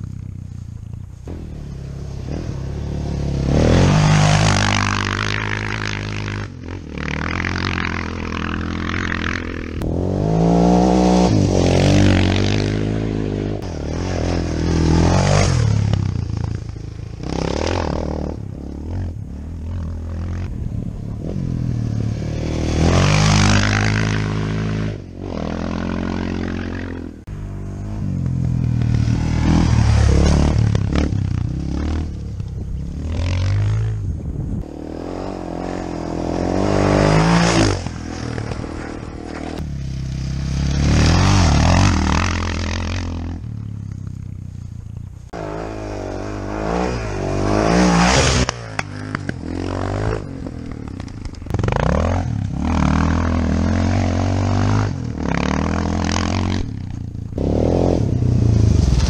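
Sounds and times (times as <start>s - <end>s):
motorcycle engines revving past: 0.0s - 59.0s.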